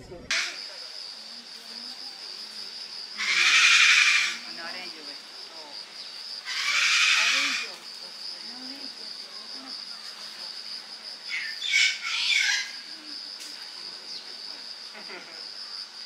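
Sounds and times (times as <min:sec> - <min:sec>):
high-pitched insect trill: 0:00.3 - 0:16.0.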